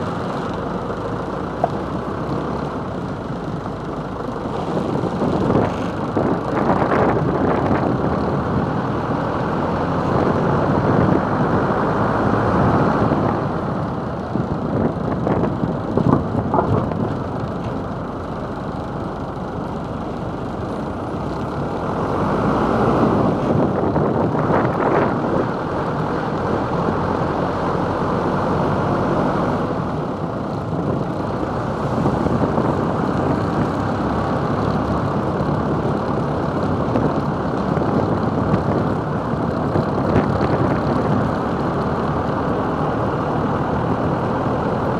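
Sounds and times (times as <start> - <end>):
road and wind noise: 0.0 - 44.9
vehicle engine: 0.0 - 44.9.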